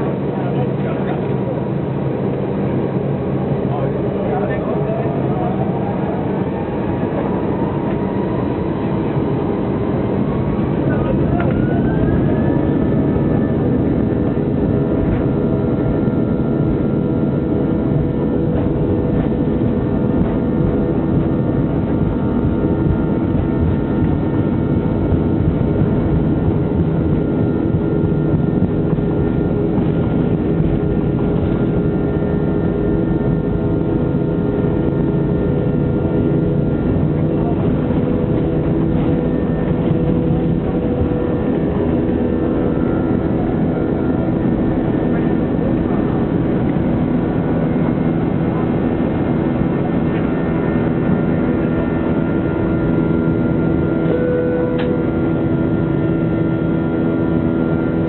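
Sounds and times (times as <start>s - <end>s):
jet engines roaring: 0.0s - 58.0s.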